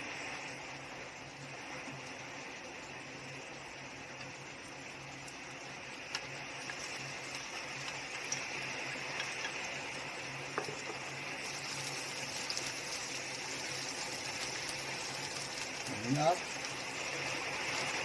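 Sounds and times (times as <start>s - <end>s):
oil sizzling in a frying pan: 0.0s - 18.0s.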